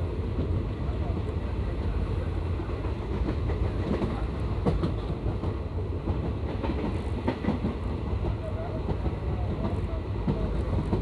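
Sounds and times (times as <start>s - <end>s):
train running gear rumble: 0.0s - 11.0s.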